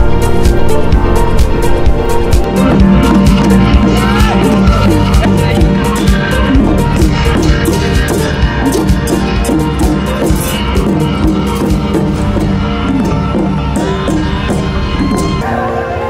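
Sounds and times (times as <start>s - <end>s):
music with drums: 0.0s - 15.7s.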